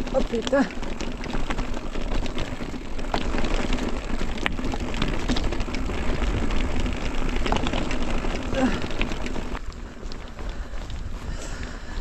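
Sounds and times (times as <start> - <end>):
bike clicks and rattles: 0.0 - 12.0
bike tyres crunching: 0.0 - 12.0.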